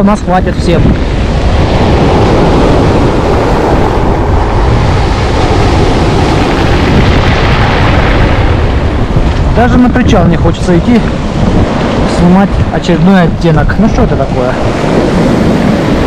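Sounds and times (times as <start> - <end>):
wind buffeting microphone: 0.0 - 16.0
waves breaking on shingle: 1.0 - 16.0.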